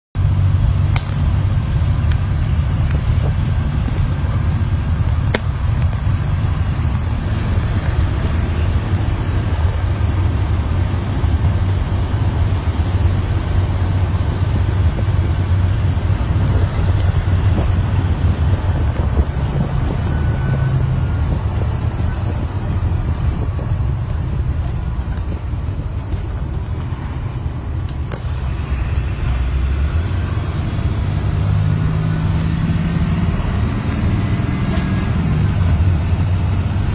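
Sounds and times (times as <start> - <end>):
road and tyre noise: 0.1 - 36.9
bus diesel engine droning: 0.2 - 36.9.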